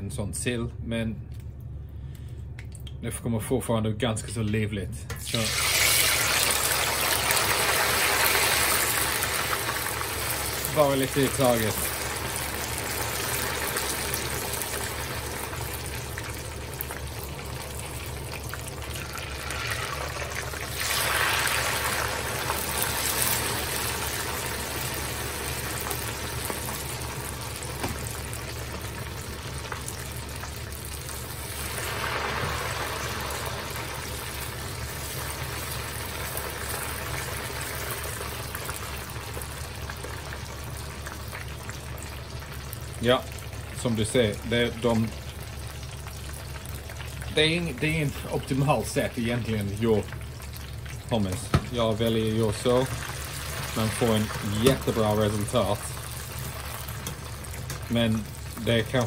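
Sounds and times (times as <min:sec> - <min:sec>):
hot oil sizzling and bubbling: 0:05.2 - 0:59.0.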